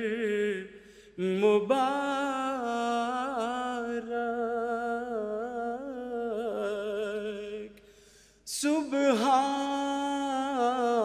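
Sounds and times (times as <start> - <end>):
man singing unaccompanied: 0.0 - 7.8, 8.5 - 11.0.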